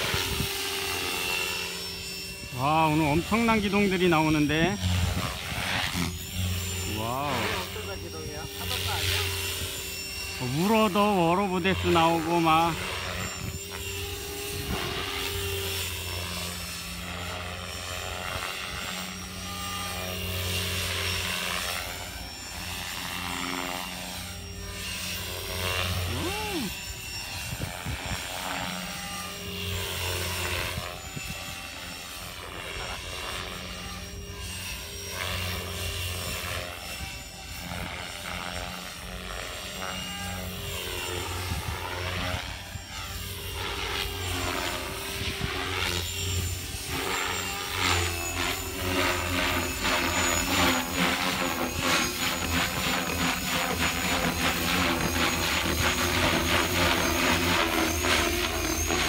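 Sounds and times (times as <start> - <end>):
model helicopter motor and rotors: 0.0 - 59.0.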